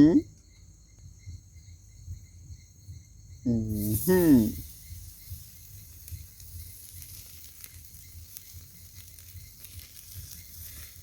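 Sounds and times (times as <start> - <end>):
wood fire crackling and hissing: 1.0 - 11.0.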